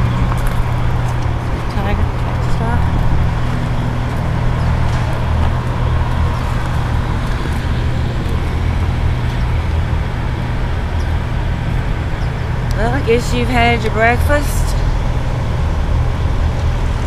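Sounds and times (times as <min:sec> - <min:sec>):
road traffic noise: 0:00.0 - 0:17.0
vehicle engines rumbling: 0:00.0 - 0:17.0.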